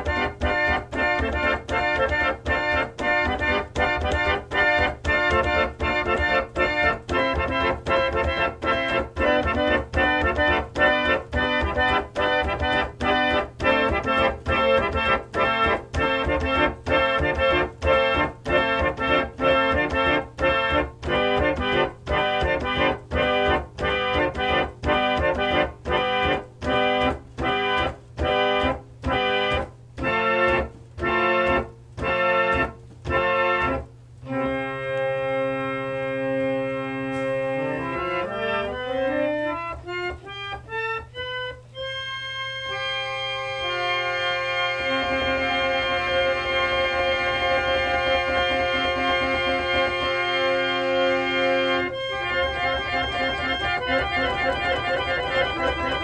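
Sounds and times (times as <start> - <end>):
organ chords: 0.0 - 56.0.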